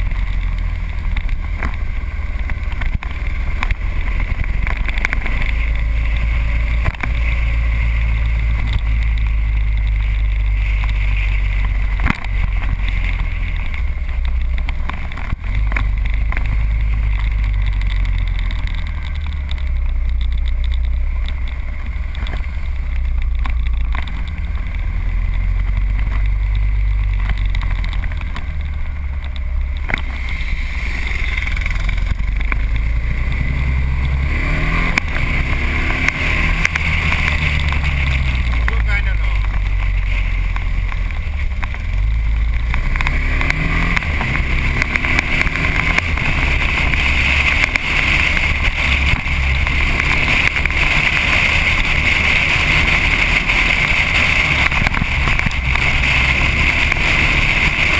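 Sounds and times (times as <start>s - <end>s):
motorcycle engine running: 0.0s - 57.9s
wind rumble on microphone: 0.0s - 57.9s.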